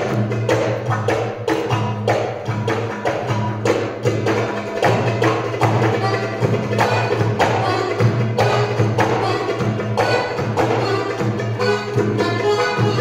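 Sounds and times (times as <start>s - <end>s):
belly dance music: 0.0s - 13.0s.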